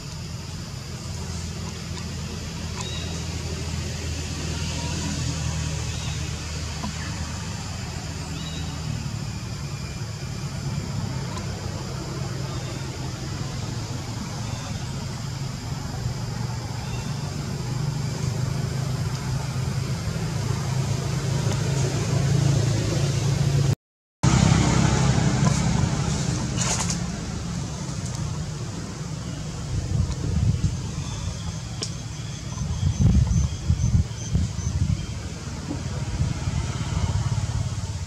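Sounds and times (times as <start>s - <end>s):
engine droning: 0.0s - 38.0s.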